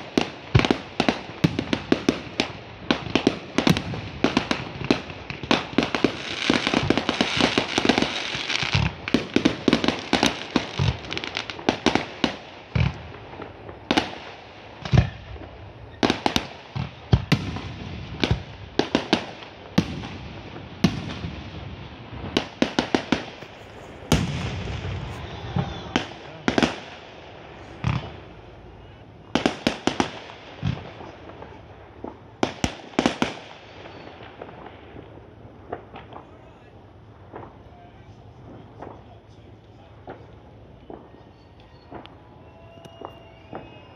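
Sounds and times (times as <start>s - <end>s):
fireworks bangs: 0.0s - 43.9s
fireworks crackling: 0.0s - 43.9s.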